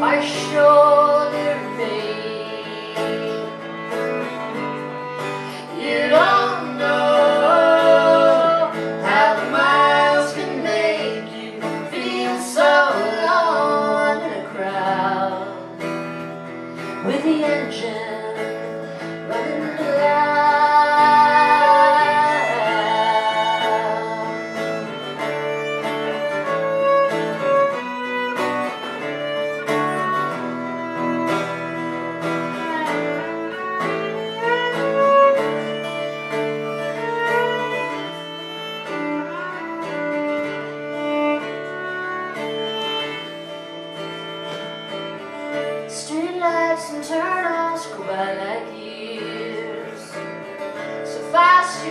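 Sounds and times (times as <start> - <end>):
fiddle melody: 0.0 - 51.9
guitar: 0.0 - 51.9.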